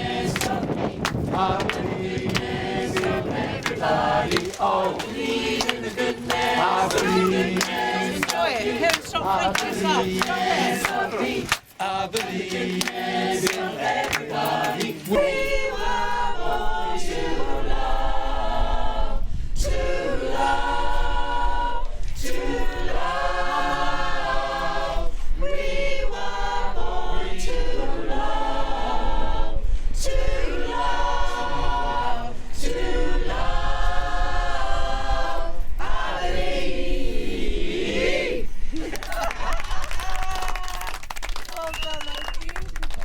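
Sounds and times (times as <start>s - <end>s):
choir singing a cappella: 0.0s - 39.6s.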